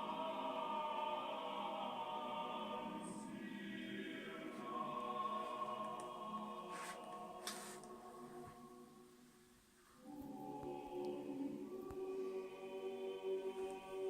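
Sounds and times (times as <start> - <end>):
choral voices holding chords: 0.0 - 9.3, 10.0 - 14.0.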